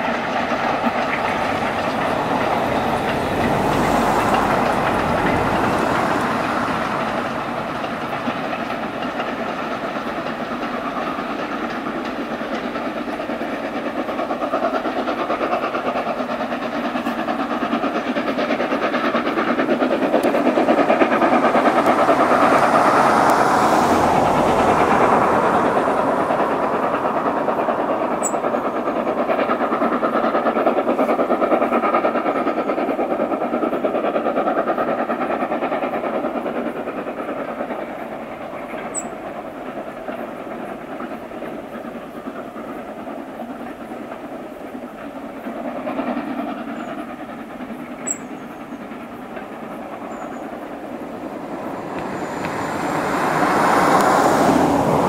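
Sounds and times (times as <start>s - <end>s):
steam locomotive exhaust: 0.0s - 55.0s
wagons rattling over rails: 0.0s - 55.0s.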